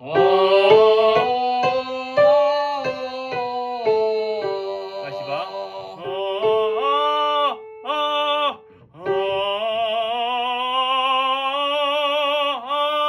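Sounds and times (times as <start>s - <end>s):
classical singing with vibrato: 0.0s - 13.0s.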